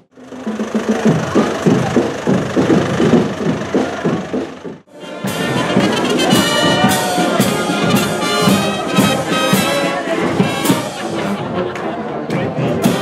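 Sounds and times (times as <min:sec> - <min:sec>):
marching brass band with drums: 0:00.4 - 0:13.0.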